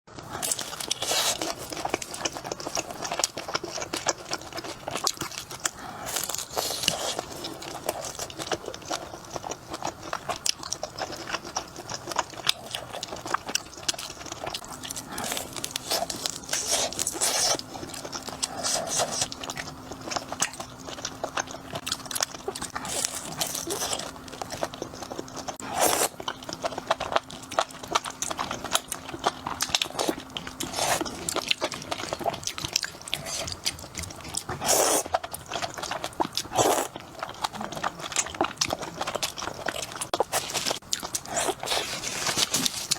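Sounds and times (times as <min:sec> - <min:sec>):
crunchy bites and chewing: 0:00.2 - 0:42.9.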